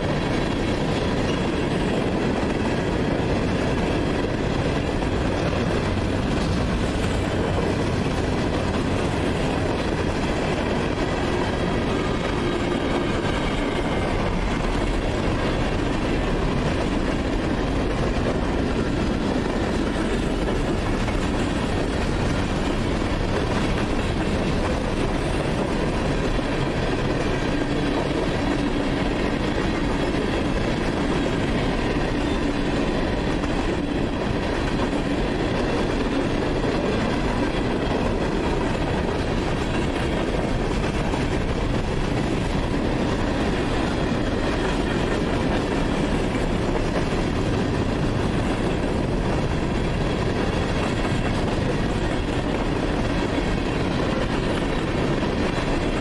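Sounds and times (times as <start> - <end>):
clickety-clack over rail joints: 0.0 - 56.0
freight train wheels rumbling: 0.0 - 56.0.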